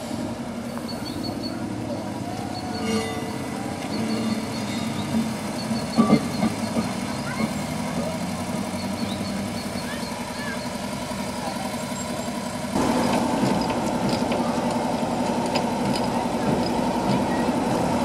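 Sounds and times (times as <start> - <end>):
rail trolley engine idling: 0.0 - 18.0.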